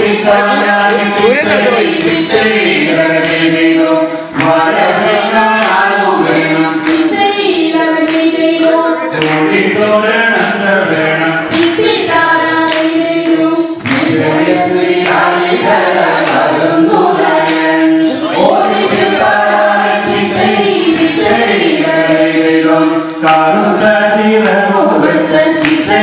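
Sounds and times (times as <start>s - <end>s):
group singing in chorus: 0.0s - 26.0s.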